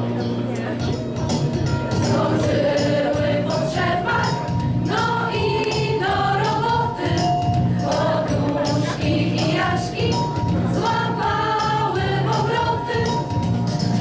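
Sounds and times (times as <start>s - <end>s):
choir singing a carol: 2.0s - 13.4s.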